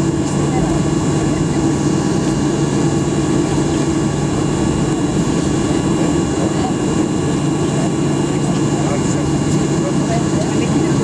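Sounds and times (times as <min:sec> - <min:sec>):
jet engines running in cabin: 0:00.0 - 0:11.0.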